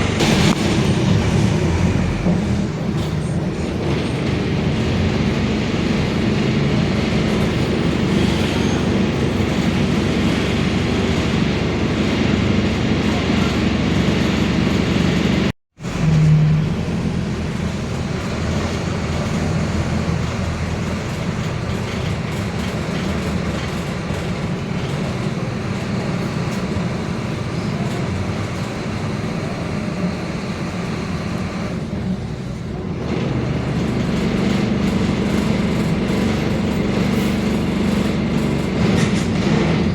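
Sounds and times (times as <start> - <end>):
bus diesel engine driving: 0.0 - 39.9.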